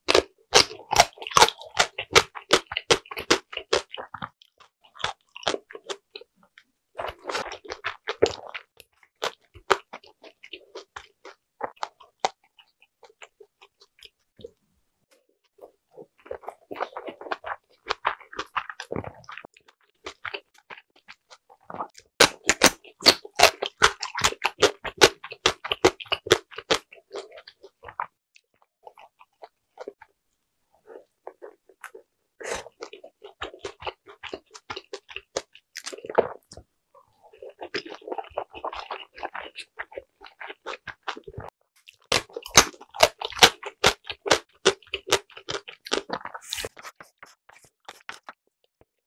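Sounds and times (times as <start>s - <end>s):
person chewing dumplings: 0.0s - 14.7s, 15.5s - 49.0s.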